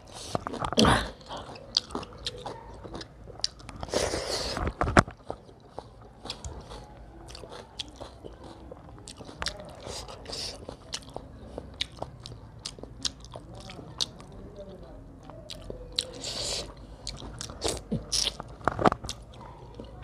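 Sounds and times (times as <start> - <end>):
person chewing with wet smacks: 0.0 - 20.0.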